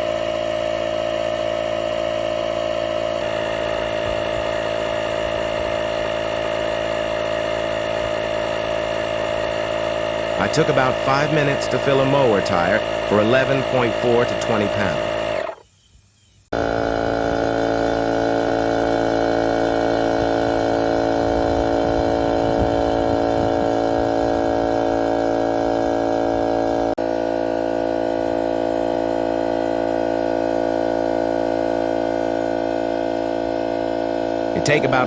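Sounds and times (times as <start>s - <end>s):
air compressor running: 0.0s - 15.7s, 16.5s - 35.0s.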